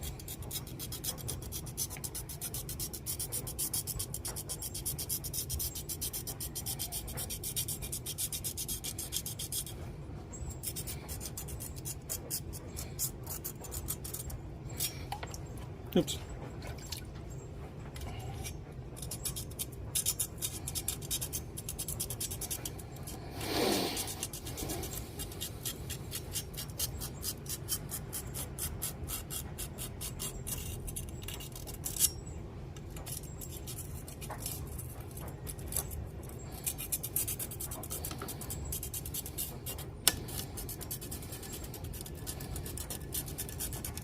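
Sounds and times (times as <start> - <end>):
stone scraping machete blade: 0.0 - 9.8, 10.4 - 15.3, 18.0 - 32.3, 32.9 - 44.0.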